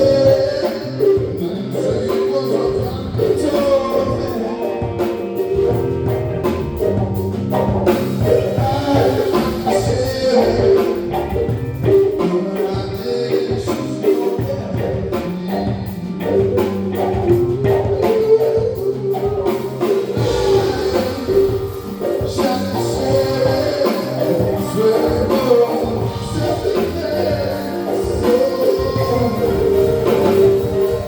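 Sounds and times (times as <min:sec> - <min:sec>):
drums keeping steady beat: 0:00.0 - 0:31.0
live band music: 0:00.0 - 0:31.0.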